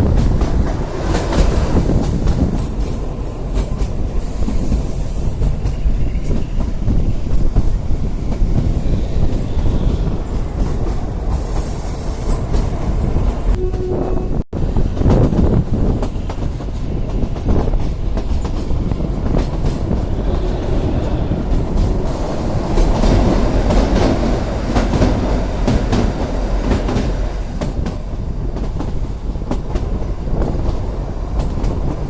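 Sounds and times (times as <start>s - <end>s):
wheels clicking on rails: 0.0s - 14.0s, 14.7s - 32.0s
train rumbling on track: 0.0s - 32.0s.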